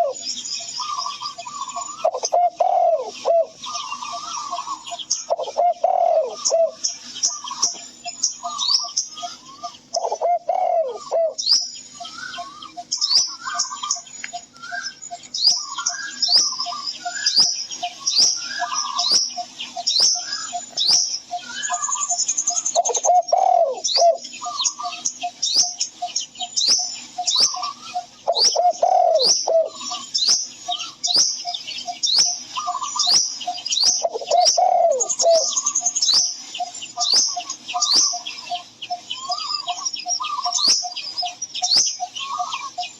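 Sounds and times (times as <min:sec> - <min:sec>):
dove cooing: 0:00.0 - 0:42.9
small birds chirping: 0:00.0 - 0:42.9.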